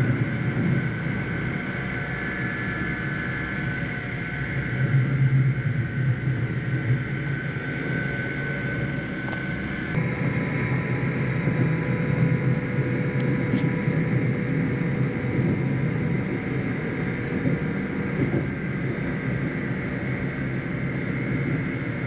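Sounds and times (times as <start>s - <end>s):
passenger train rumbling: 0.0s - 22.0s.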